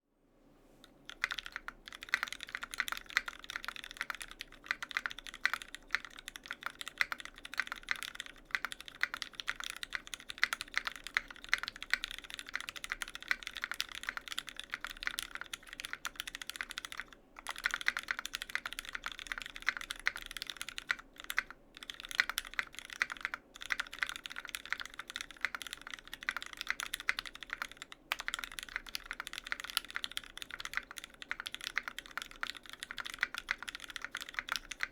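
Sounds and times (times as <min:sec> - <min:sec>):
mechanical keyboard typing: 0:00.9 - 0:34.9.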